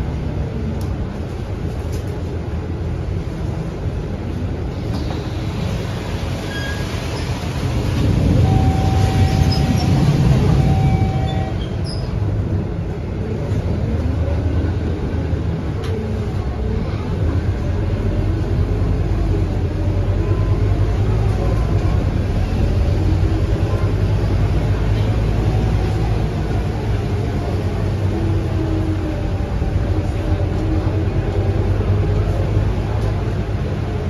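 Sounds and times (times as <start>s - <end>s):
bus engine rumble and whine: 0.0s - 34.0s
rain: 0.0s - 34.0s
tyres on wet road: 0.0s - 34.0s.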